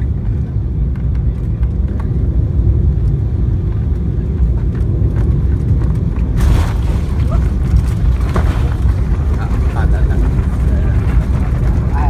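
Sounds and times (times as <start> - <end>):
jet cabin low rumble: 0.0 - 12.0.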